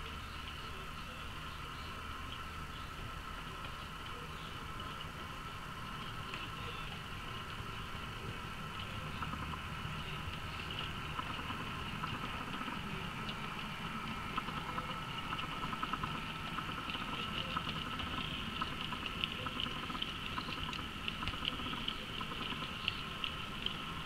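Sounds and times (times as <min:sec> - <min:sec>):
low locomotive rumble: 0:00.0 - 0:24.0
steady high whine: 0:00.0 - 0:24.0.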